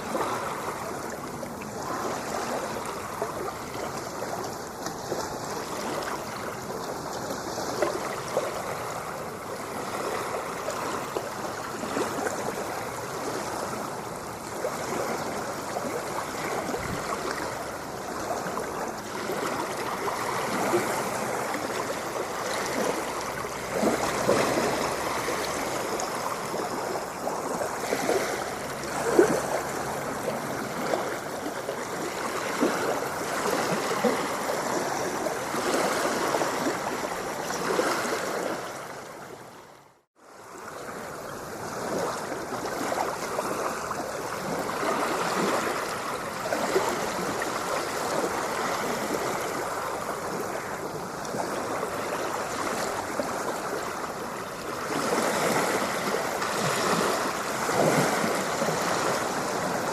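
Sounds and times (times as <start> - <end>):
water splashing and gurgling: 0.0 - 59.9.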